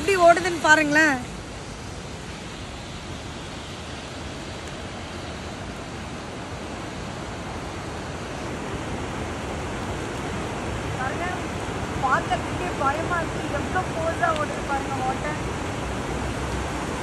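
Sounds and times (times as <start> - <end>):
river rushing through rapids: 0.0 - 17.0.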